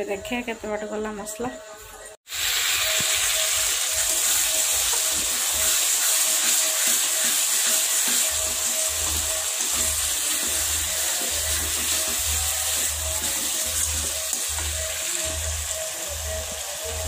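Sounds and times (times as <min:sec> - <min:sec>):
curry sizzling in oil: 0:02.2 - 0:17.0.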